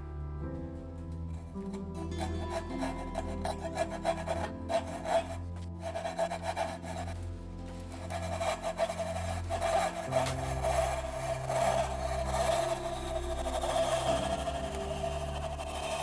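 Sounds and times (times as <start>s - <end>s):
soft background music: 0.0s - 16.0s
coping saw rasping strokes: 1.7s - 16.0s.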